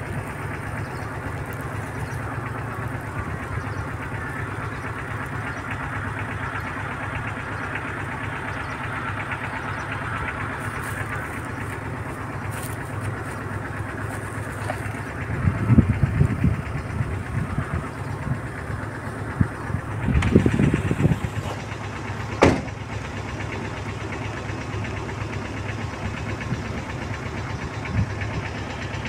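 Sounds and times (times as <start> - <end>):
engine droning steadily: 0.0 - 29.0.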